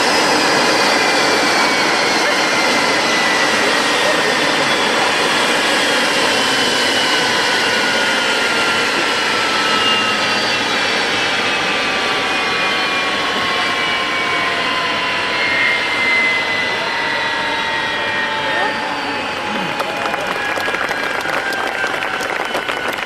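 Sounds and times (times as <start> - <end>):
jet engine spooling down: 0.0 - 23.0.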